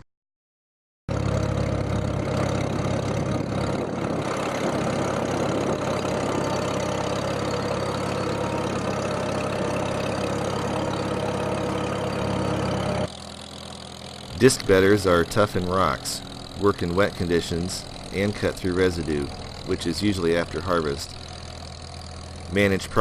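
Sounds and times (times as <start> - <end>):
tractor engine running: 1.1 - 23.0.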